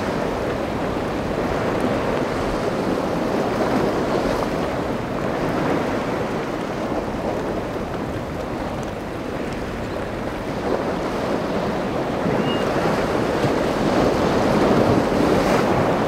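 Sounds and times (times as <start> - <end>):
churning seawater: 0.0 - 16.0
wind buffeting microphone: 0.0 - 16.0.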